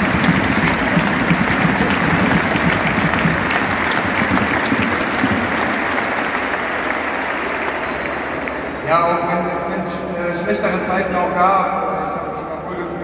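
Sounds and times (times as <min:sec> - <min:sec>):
stadium crowd applauding: 0:00.0 - 0:10.8.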